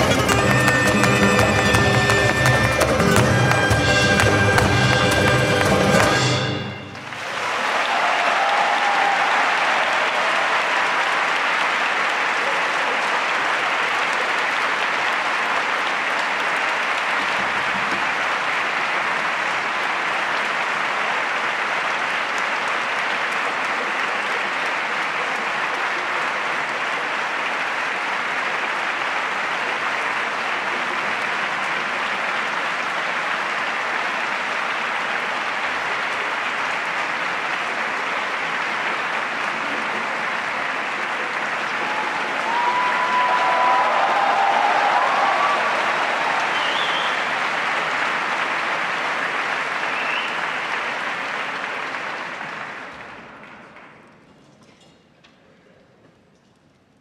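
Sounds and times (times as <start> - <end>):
large audience applauding: 0.0 - 54.3.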